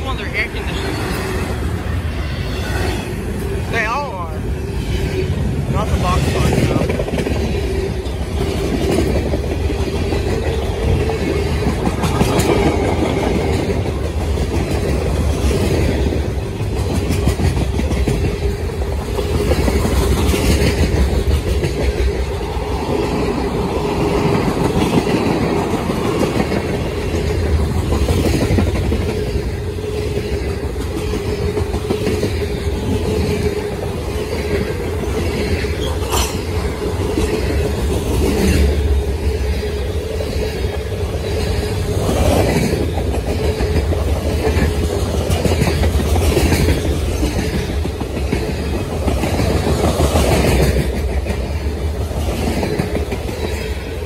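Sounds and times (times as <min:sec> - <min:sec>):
wheels rumbling on rail: 0:00.0 - 0:54.0
wheels clacking over rail joints: 0:04.7 - 0:54.0.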